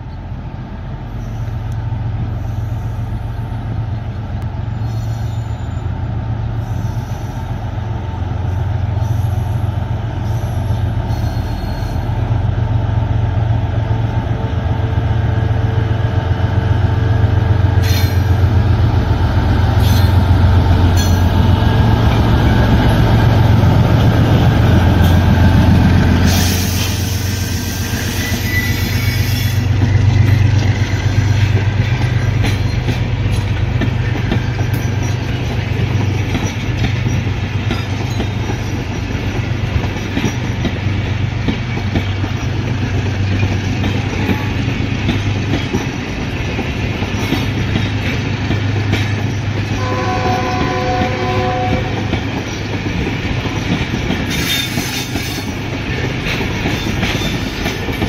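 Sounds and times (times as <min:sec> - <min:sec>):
locomotive engine rumbling: 0:00.0 - 0:58.0
train wheels rolling on rails: 0:00.0 - 0:58.0.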